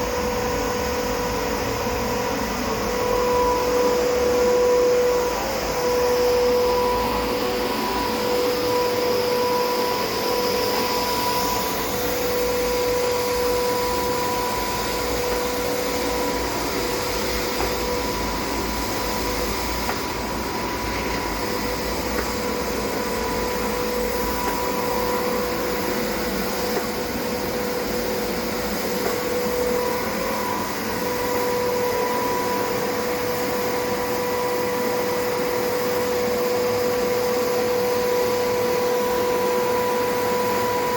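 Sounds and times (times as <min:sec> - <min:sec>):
flour mill motor hum and whine: 0:00.0 - 0:40.9.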